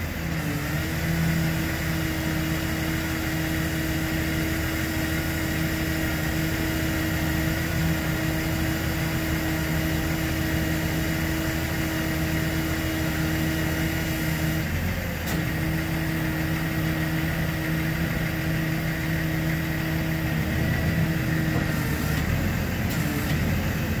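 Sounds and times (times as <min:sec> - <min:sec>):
hydraulic system drone: 0:04.6 - 0:24.0.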